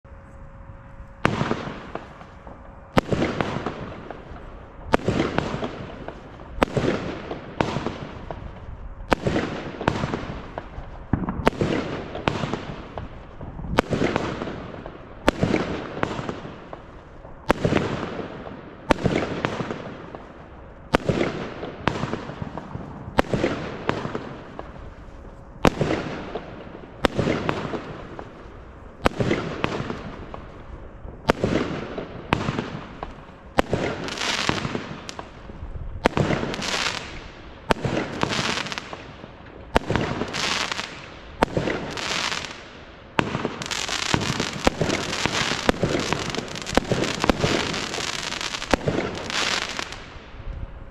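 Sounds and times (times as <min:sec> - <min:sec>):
firework hiss and crackle: 0:01.2 - 0:50.9.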